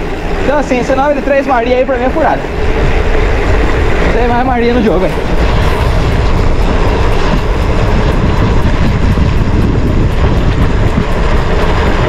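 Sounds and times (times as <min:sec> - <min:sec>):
tyres rumbling on road: 0:00.0 - 0:12.0
wind on microphone: 0:00.0 - 0:12.0.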